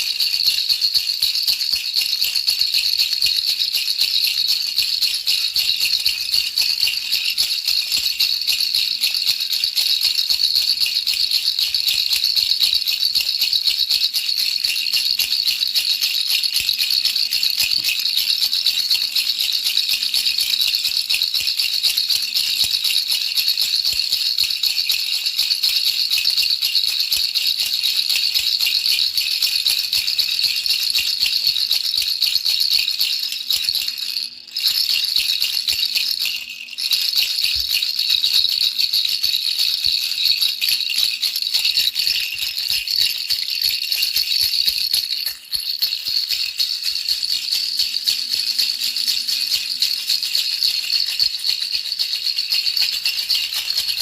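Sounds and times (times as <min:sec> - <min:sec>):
baby rattle shaking: 0:00.0 - 0:54.0.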